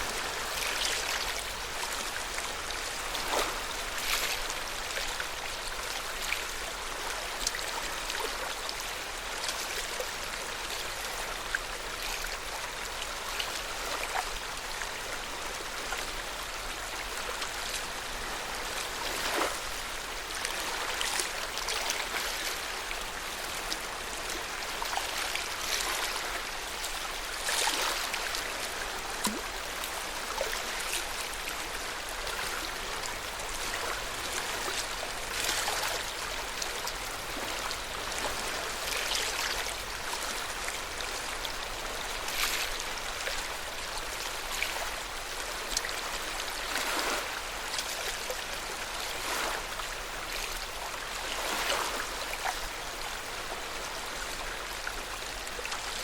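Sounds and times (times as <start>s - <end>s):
water lapping and splashing: 0.0s - 56.0s.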